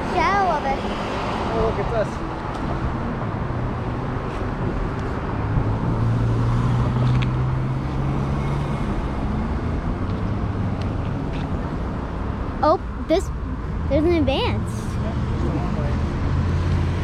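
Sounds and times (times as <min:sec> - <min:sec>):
passing vehicles: 0:00.0 - 0:17.0
vehicle engine hum: 0:00.0 - 0:17.0.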